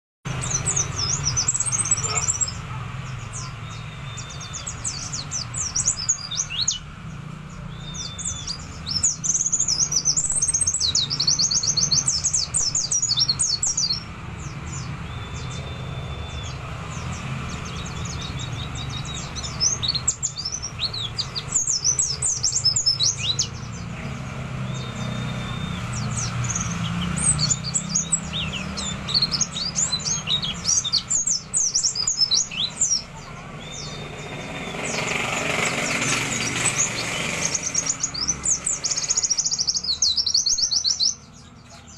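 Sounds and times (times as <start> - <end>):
bird twittering and trilling: 0.3 - 41.9.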